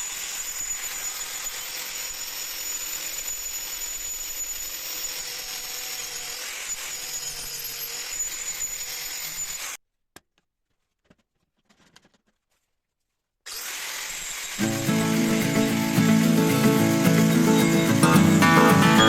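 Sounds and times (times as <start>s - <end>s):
electric power tool cutting wood: 0.0s - 9.8s, 13.5s - 19.0s.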